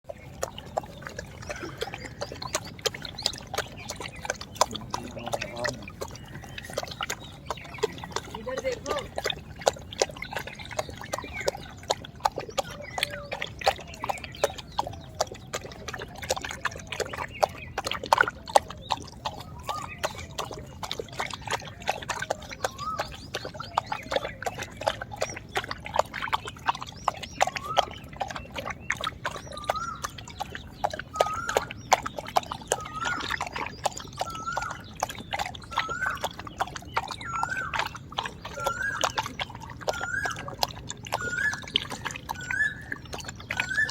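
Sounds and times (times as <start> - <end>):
dog lapping water: 0.0 - 43.9.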